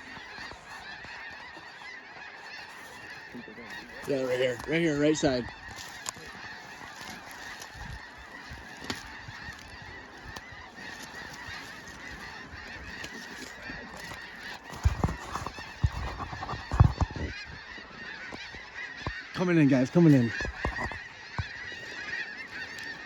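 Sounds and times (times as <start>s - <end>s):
flock of geese honking: 0.0s - 23.0s.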